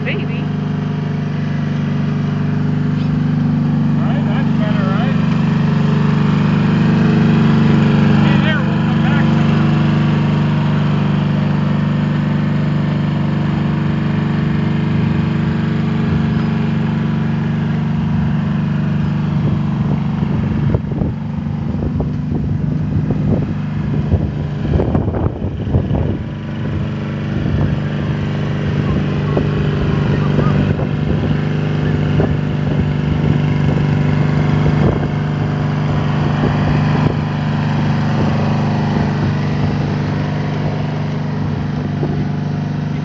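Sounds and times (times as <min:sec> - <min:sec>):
riding lawn mower engine: 0:00.0 - 0:43.0.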